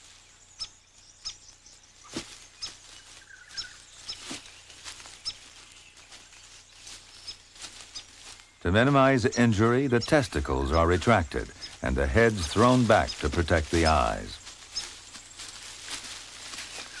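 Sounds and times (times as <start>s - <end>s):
kangaroos thudding and scuffing: 1.4s - 17.0s.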